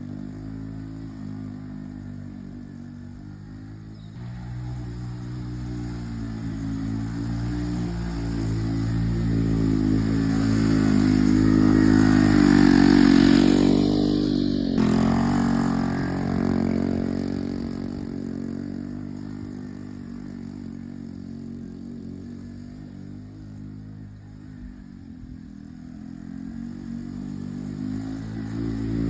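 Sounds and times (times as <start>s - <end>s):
three-wheeler engine revving: 0.0s - 29.0s.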